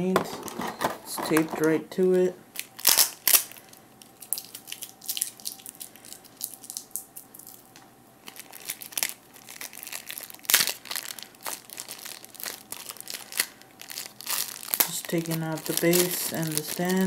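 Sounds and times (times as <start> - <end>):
plastic packaging and tape crinkling: 2.5 - 17.0.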